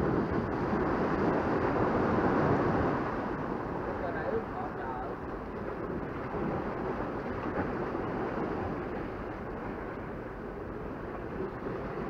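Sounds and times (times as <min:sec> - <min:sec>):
waves washing against rocks: 0:00.0 - 0:09.8
wind noise on microphone: 0:00.0 - 0:12.0.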